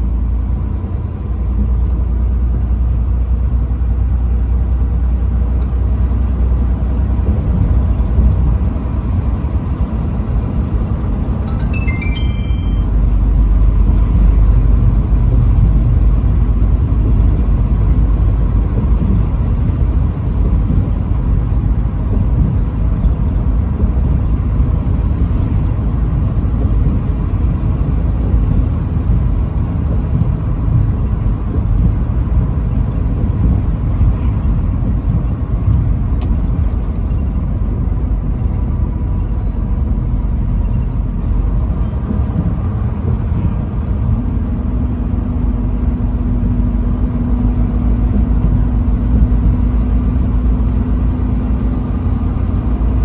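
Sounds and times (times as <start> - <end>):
vehicle road rumble: 0.0 - 53.0.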